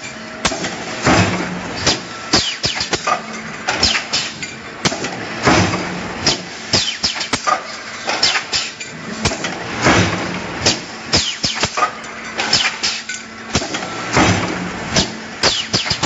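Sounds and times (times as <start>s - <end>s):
low machine hum: 0.0s - 16.0s
stamping press metallic clanks: 0.0s - 16.0s.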